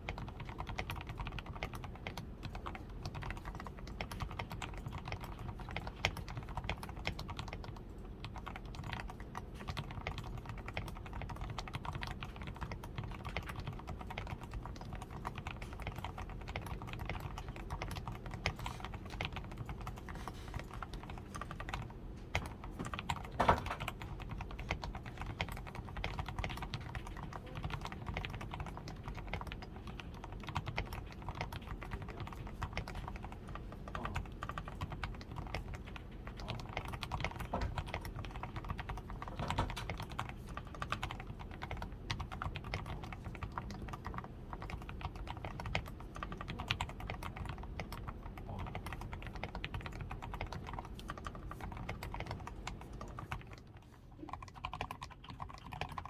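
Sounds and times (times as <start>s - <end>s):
mechanical keyboard typing: 0.0s - 56.0s.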